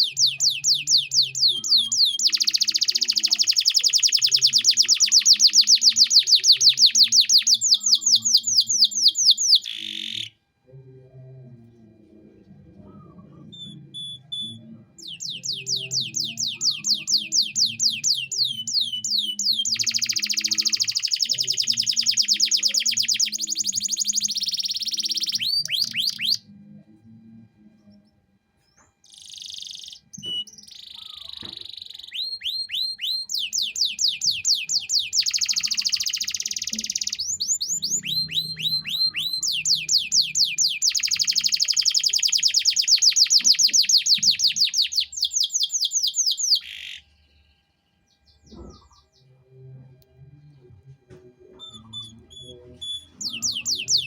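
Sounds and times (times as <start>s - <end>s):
canary singing trills: 0.0s - 10.4s, 12.7s - 26.9s, 28.8s - 49.7s, 51.5s - 54.0s.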